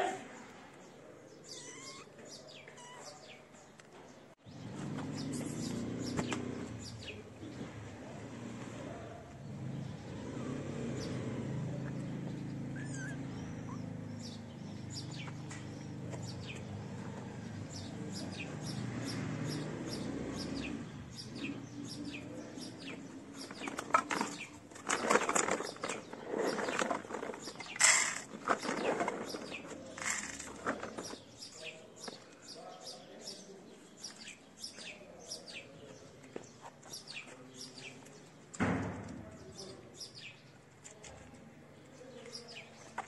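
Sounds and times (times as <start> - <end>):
small birds chirping: 0.3 - 43.0.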